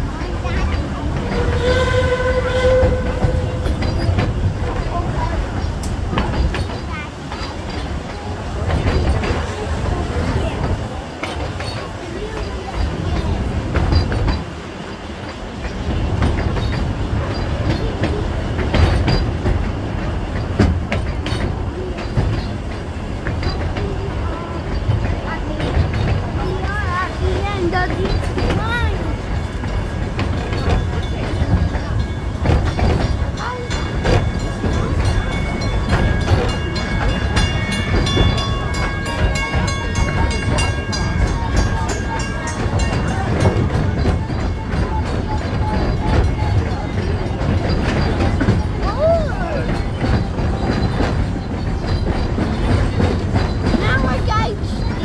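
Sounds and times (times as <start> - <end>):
train carriage rumbling on track: 0.0 - 55.0
wheels clicking over rails: 0.0 - 55.0.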